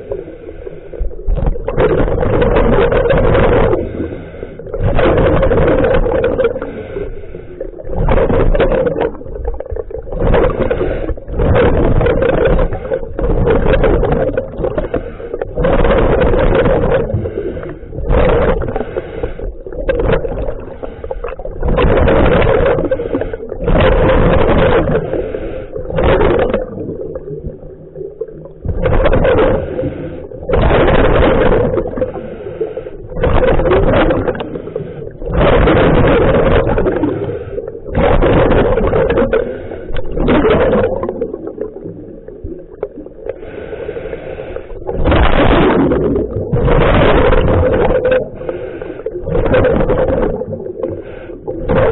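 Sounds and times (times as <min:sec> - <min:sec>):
exhaled bubbles underwater: 0:00.0 - 0:51.9.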